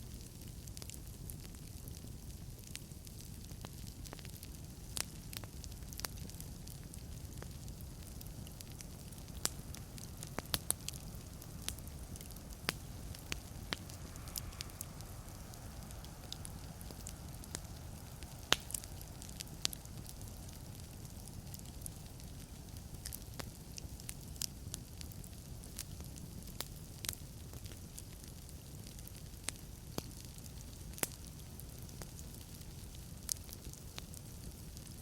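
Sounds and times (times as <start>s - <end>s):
fire low rumble: 0.0s - 35.0s
logs crackling and popping: 0.0s - 35.0s.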